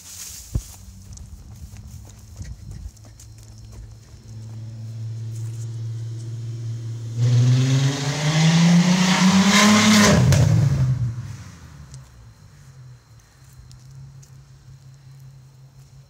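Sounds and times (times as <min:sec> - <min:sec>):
car exhaust accelerating: 0:00.4 - 0:16.0.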